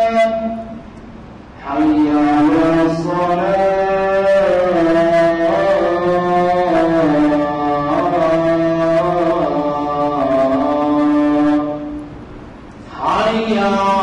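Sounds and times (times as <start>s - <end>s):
person chanting melodically: 0.0s - 0.9s, 1.6s - 12.1s, 12.8s - 14.0s
steady low drone tone: 0.0s - 14.0s.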